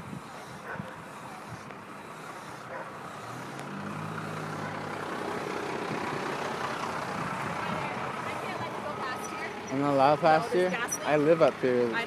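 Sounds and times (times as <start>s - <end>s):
outdoor rumble: 0.0s - 12.0s
vehicle engine running: 0.0s - 12.0s.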